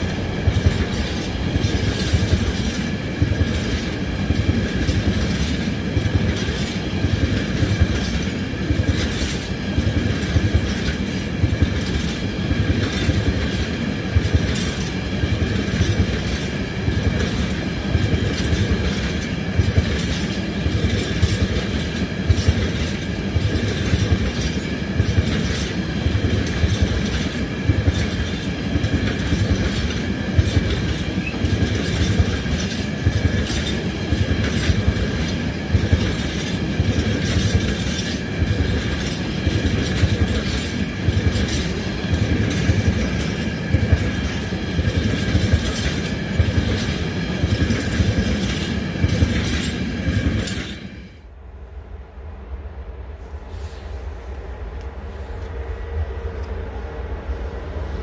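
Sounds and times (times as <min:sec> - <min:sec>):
train wheels clicking over rail joints: 0:00.0 - 0:51.2.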